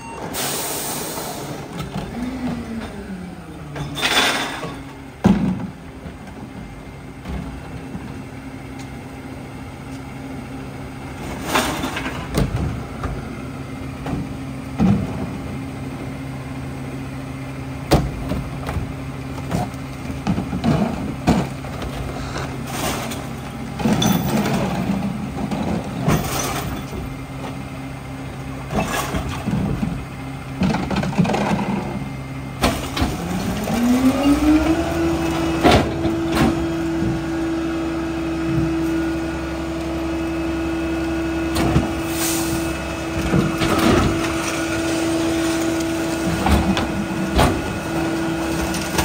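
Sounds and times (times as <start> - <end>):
garbage truck diesel engine running: 0.0 - 49.0.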